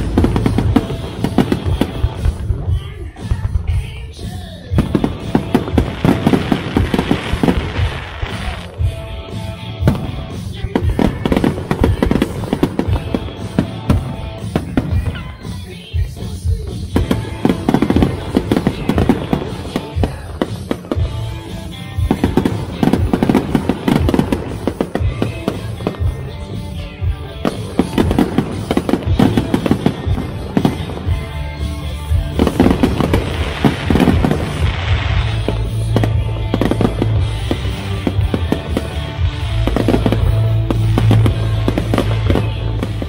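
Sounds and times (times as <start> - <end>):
fireworks bangs and crackles: 0.0 - 43.0
music playing: 0.0 - 43.0.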